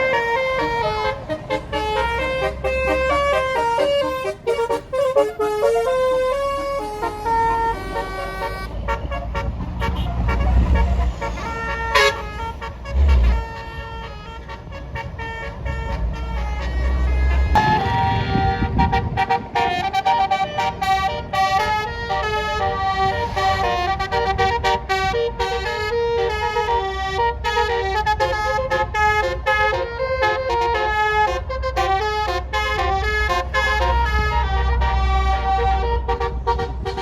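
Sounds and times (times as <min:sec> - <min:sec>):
musical air horn melody: 0:00.0 - 0:37.0.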